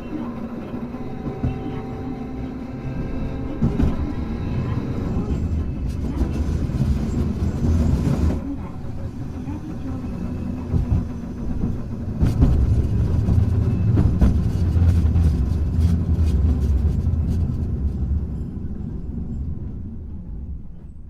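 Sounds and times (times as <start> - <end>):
tram wheels rumbling: 0.0 - 21.0.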